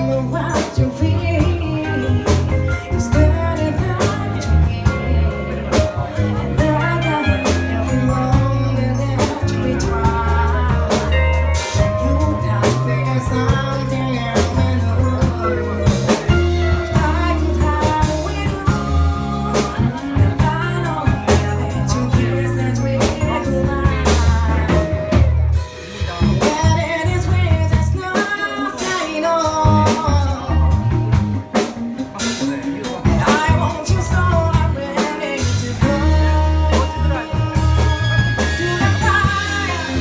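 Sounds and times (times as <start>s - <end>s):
bass line: 0.0s - 40.0s
drum kit: 0.0s - 40.0s
guitar: 0.0s - 40.0s
person singing: 0.0s - 40.0s.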